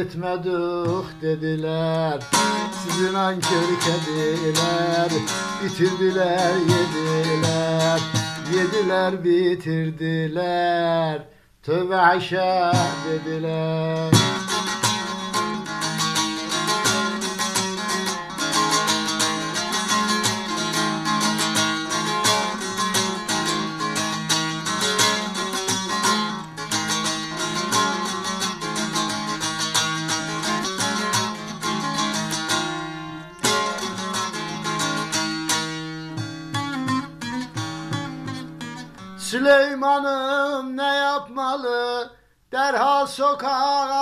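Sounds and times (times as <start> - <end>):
long-necked lute strummed and plucked: 0.0 - 11.2, 12.0 - 42.0.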